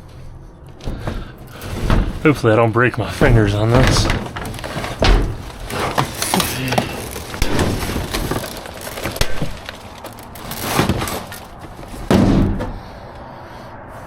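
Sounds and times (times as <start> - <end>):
scrap metal knocks and clatters: 0.7 - 12.9.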